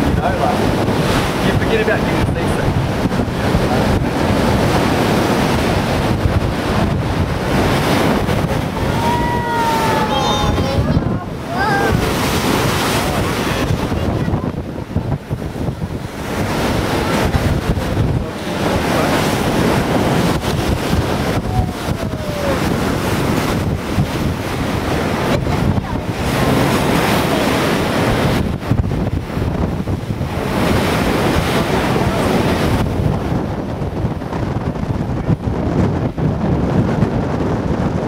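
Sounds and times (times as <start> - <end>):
rushing water: 0.0 - 38.0
wind buffeting microphone: 0.0 - 38.0.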